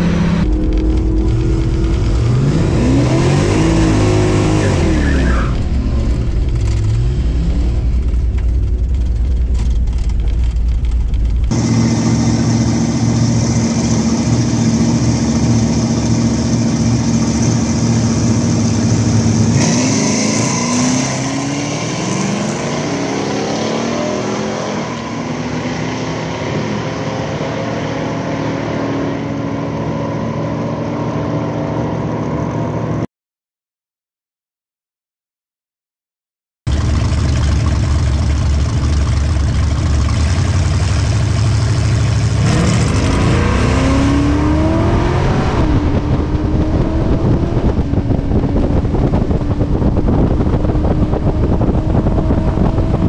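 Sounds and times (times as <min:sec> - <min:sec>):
race car engines revving: 0:00.0 - 0:33.0, 0:36.7 - 0:53.0.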